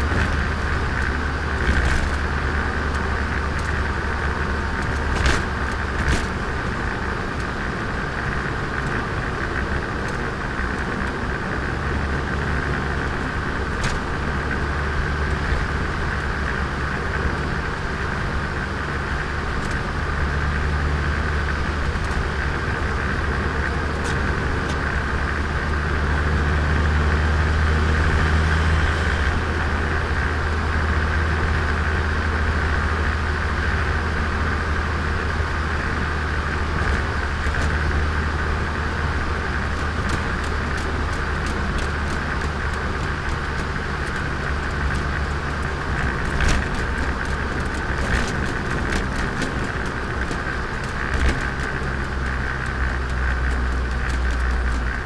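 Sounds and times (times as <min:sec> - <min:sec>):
car engine pulling: 0:00.0 - 0:55.0
tyre and road noise: 0:00.0 - 0:55.0.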